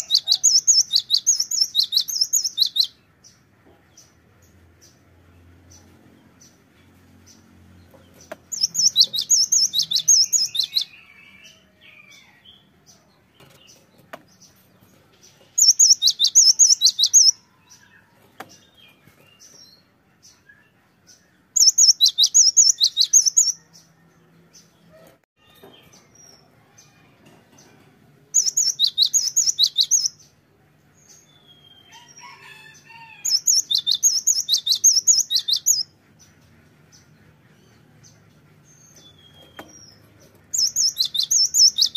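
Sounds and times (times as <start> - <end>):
soft bird chirps: 0.0 - 41.9.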